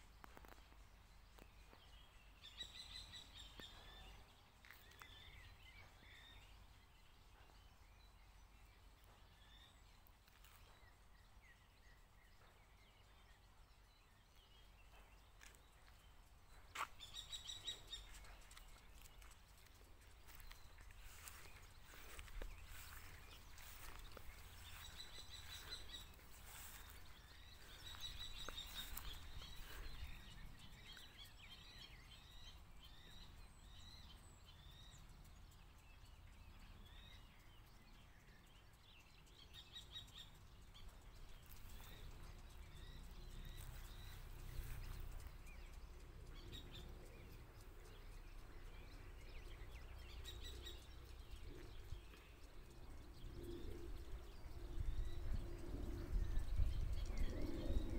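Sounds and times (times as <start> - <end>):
small birds chirping: 0.0 - 57.9
low steady rumble: 10.8 - 57.9.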